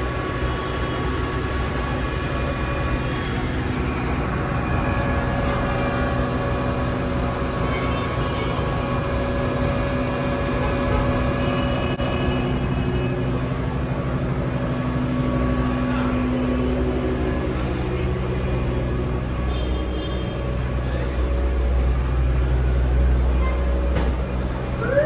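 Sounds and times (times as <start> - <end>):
constant humming tones: 0.0 - 25.0
tram rumbling: 0.0 - 25.0.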